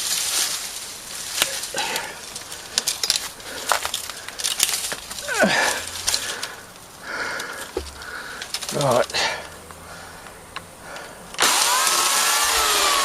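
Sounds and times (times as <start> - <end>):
branches and twigs cracking: 0.0 - 13.0.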